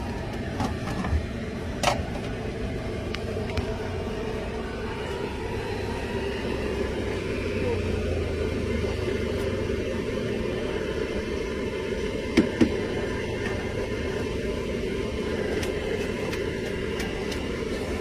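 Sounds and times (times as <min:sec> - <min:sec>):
low background rumble: 0:00.0 - 0:18.0
water boiling in a pot: 0:00.0 - 0:18.0.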